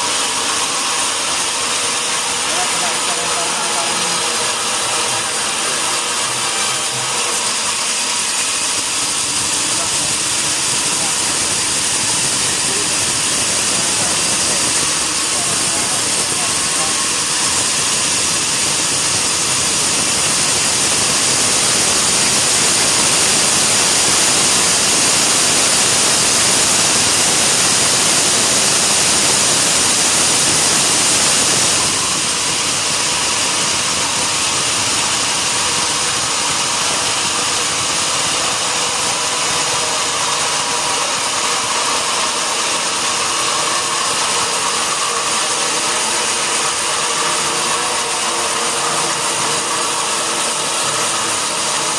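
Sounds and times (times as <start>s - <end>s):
sawmill machinery hissing: 0.0s - 51.9s.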